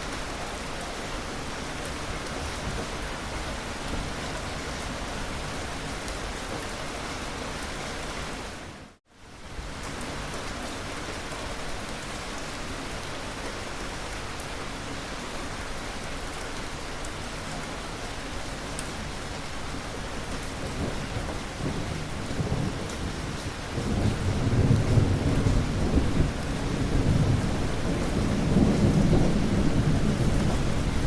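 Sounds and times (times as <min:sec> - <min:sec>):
dense rainfall: 0:00.0 - 0:31.0.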